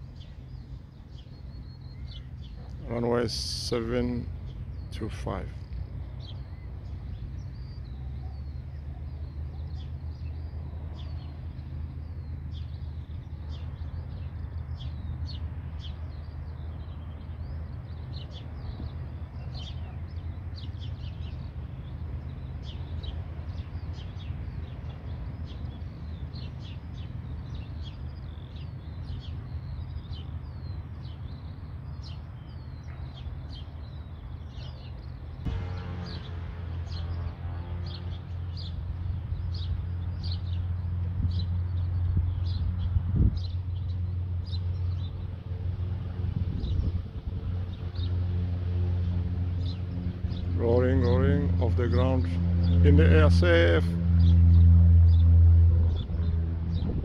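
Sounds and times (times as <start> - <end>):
birds chirping: 0.0 - 57.0
distant aircraft engine drone: 0.0 - 57.0.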